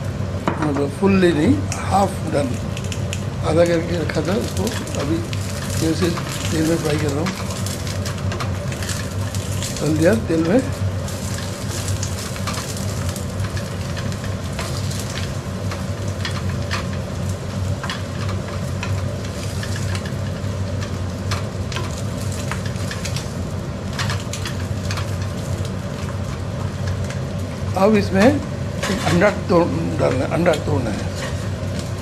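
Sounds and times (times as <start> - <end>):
flatbread sizzling in oil: 2.2 - 32.0.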